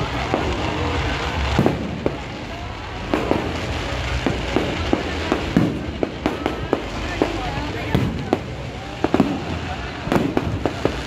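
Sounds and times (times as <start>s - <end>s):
fireworks bangs: 0.0s - 11.0s
low rumble and crackle: 0.0s - 11.0s.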